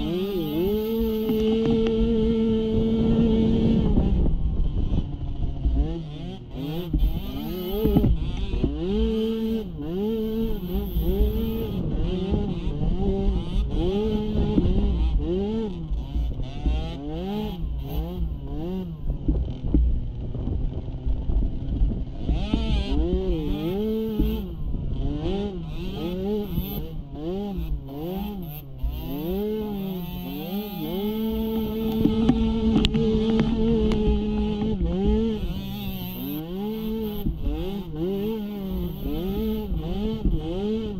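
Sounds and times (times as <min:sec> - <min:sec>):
atv engine revving: 0:00.0 - 0:40.9
low buffeting noise: 0:00.0 - 0:40.9.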